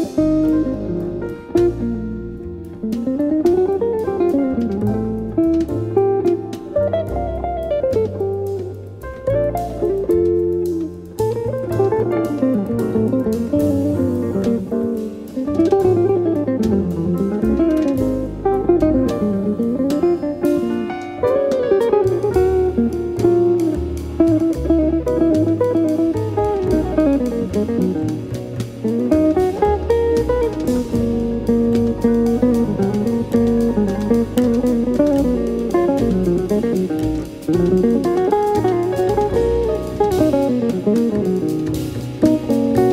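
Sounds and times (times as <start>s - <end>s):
plucked guitar melody: 0.0s - 42.9s
stepping bass line: 0.0s - 42.9s.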